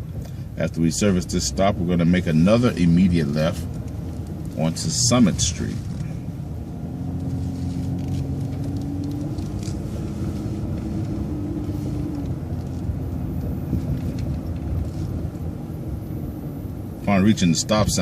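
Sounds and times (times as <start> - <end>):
bus engine and road rumble: 0.0 - 18.0
bus whine: 0.0 - 18.0.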